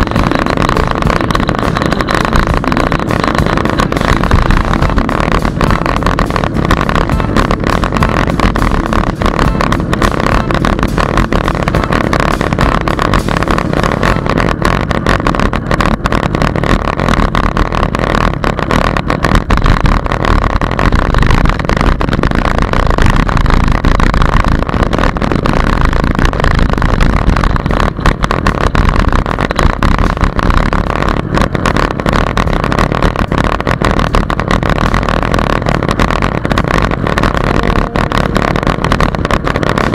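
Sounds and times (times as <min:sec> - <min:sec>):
bicycle tyres rolling on pavement: 0:00.0 - 0:39.9
wind noise on microphone: 0:00.0 - 0:39.9.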